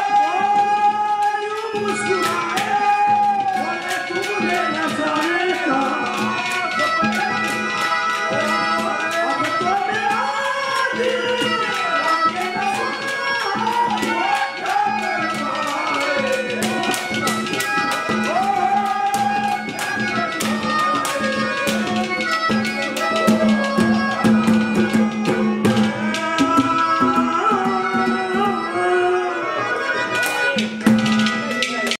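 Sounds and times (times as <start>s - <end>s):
man singing: 0.0s - 24.3s, 25.2s - 29.9s
harmonium drone and melody: 0.0s - 31.9s
hand drum strokes: 1.8s - 28.6s, 30.2s - 31.9s.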